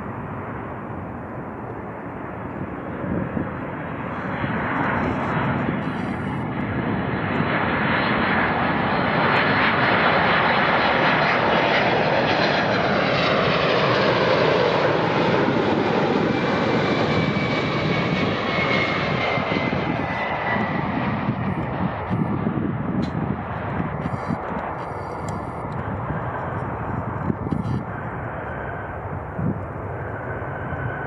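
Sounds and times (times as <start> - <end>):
jet airliner passing close by: 0.0 - 31.0.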